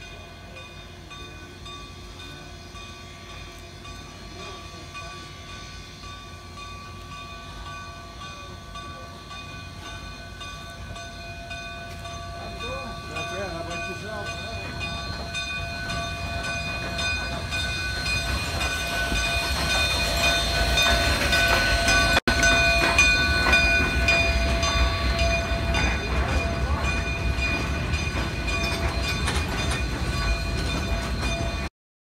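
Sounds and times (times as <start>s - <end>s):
steam locomotive hissing: 0.0s - 31.7s.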